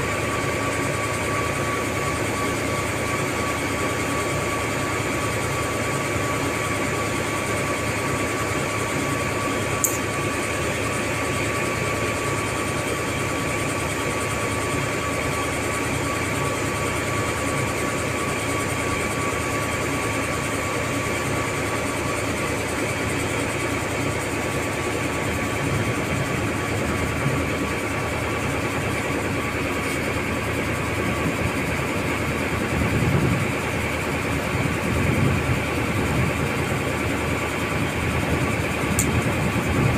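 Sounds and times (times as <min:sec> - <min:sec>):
ship engines droning: 0:00.0 - 0:39.9
thin steady whine: 0:00.0 - 0:39.9.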